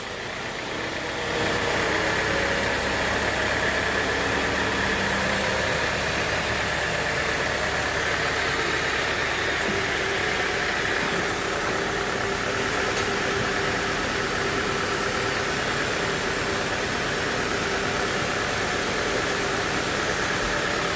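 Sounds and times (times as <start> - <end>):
sawmill machinery humming: 0.0 - 20.9
steady machine whine: 0.0 - 20.9.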